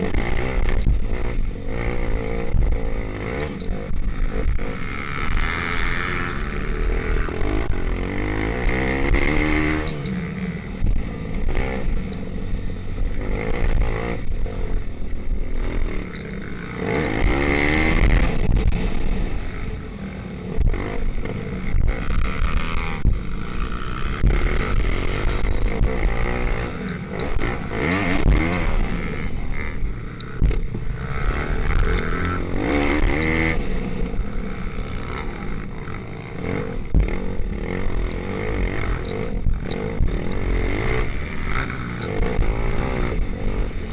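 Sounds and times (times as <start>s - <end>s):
pit bike engines racing: 0.0s - 43.9s.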